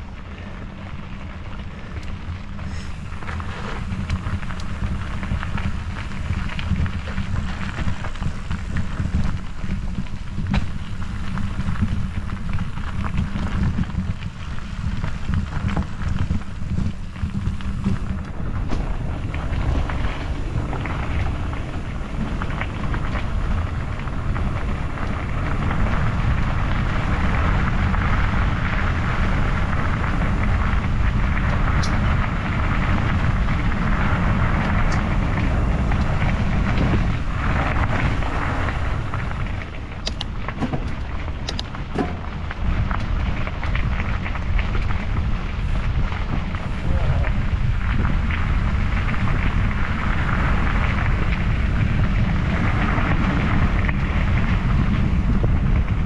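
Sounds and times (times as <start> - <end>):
tyres rolling on trail: 0.0 - 56.0
wind buffeting microphone: 0.0 - 56.0.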